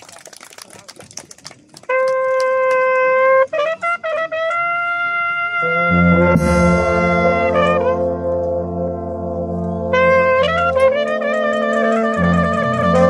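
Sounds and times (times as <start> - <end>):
brass band playing: 1.8 - 13.0
solo trumpet: 1.8 - 13.0.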